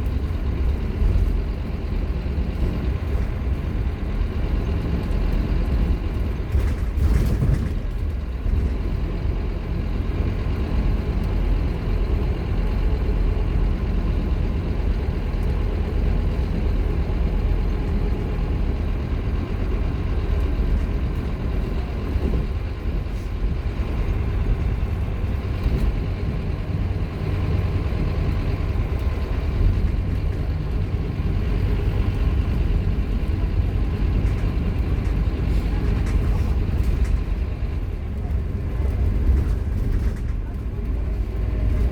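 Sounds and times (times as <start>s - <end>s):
bus diesel engine rumble: 0.0s - 41.9s
road noise: 0.0s - 41.9s.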